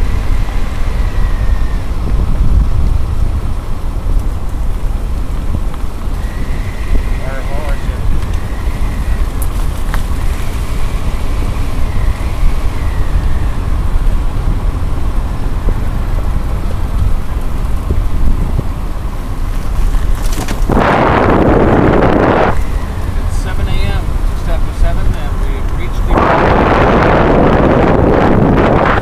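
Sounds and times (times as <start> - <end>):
road and wind noise in car: 0.0 - 29.0
rush of noise: 0.0 - 29.0.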